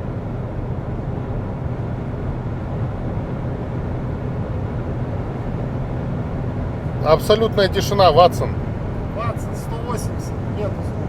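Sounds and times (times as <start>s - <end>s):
car cabin road and wind noise: 0.0s - 11.0s.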